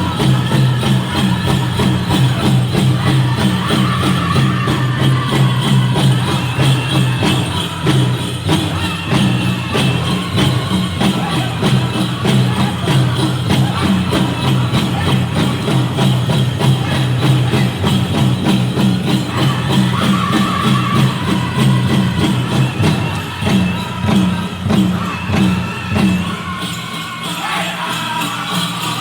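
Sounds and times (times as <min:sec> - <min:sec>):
fast beat on large drum: 0:00.0 - 0:26.9
bells jingling: 0:00.0 - 0:29.0
drum group singing: 0:00.0 - 0:29.0.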